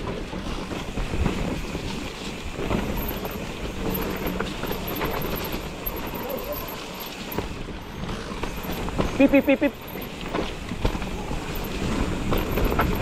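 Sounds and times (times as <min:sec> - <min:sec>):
bike rattling and knocking: 0:00.0 - 0:13.0
bike tyres rolling over dirt: 0:00.0 - 0:13.0.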